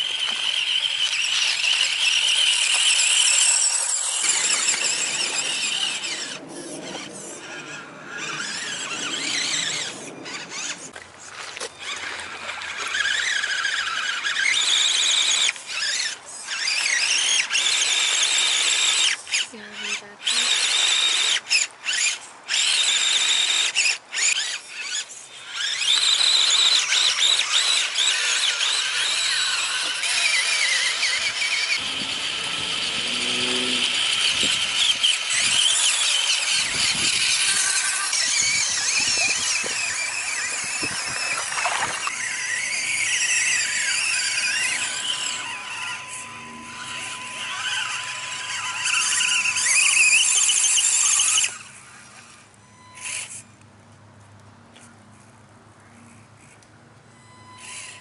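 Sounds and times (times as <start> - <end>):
small electric motor whine: 0.0 - 58.0.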